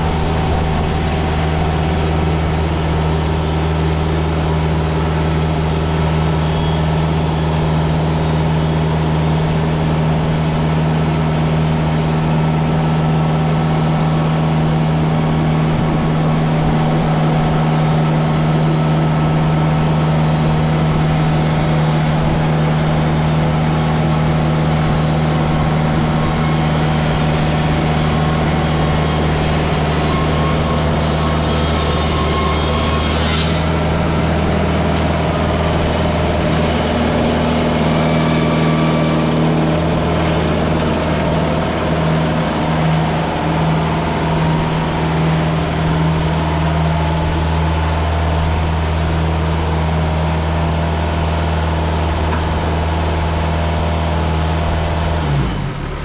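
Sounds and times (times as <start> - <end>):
saw blade cutting wood: 0.0 - 55.6
sawmill engine drone: 0.0 - 56.0.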